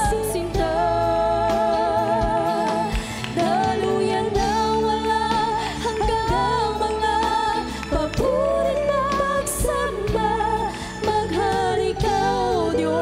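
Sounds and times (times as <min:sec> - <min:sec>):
choir singing worship song: 0:00.0 - 0:13.0.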